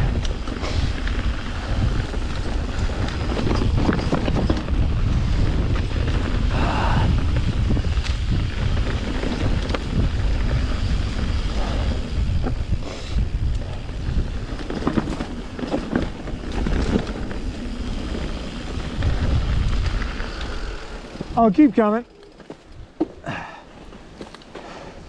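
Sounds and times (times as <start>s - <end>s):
wind buffeting microphone: 0.0s - 21.8s
bike clicks and rattles: 0.0s - 25.0s.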